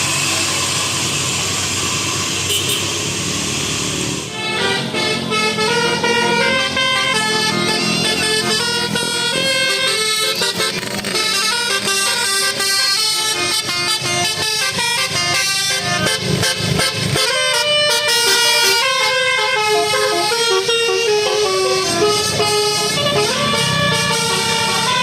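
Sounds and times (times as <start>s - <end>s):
musical air horn tune: 4.3s - 25.0s.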